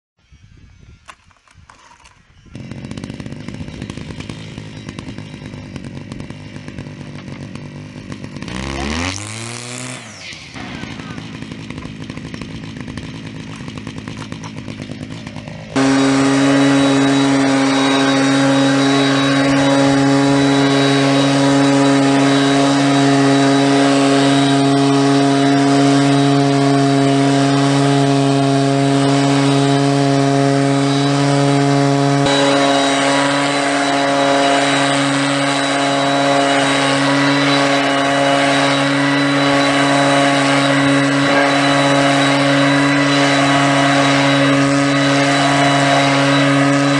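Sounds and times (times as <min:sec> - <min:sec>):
two-stroke engine revving: 0:02.5 - 0:46.9.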